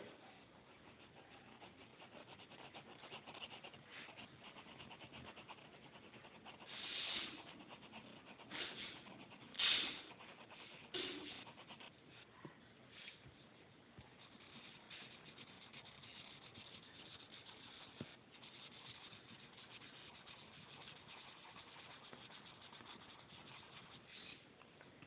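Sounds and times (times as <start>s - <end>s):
pencil scratching on paper: 0.7s - 12.3s, 14.2s - 24.4s.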